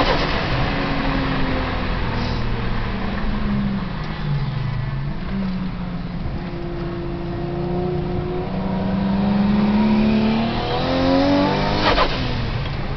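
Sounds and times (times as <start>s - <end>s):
car engine accelerating: 0.0s - 12.9s.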